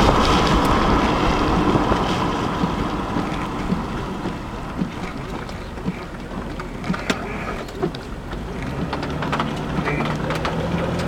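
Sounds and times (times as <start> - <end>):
raindrops ticking on vehicle: 0.0 - 11.0
rushing vehicle noise: 0.0 - 11.0.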